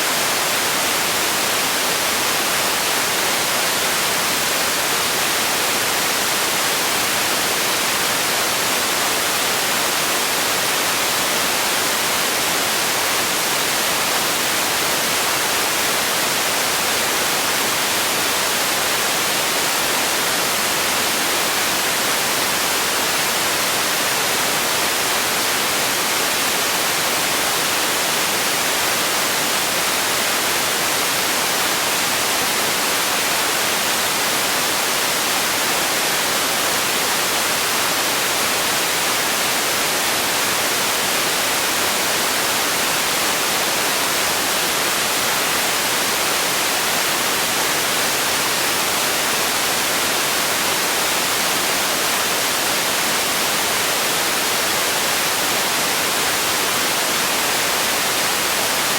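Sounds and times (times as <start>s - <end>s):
steady hiss noise: 0.0s - 58.9s.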